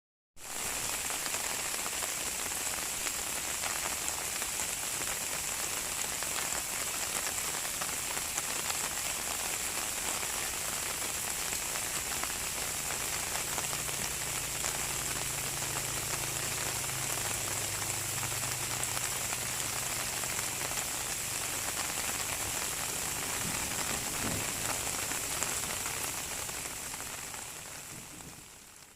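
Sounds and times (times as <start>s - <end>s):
steady rain falling: 0.4s - 28.9s.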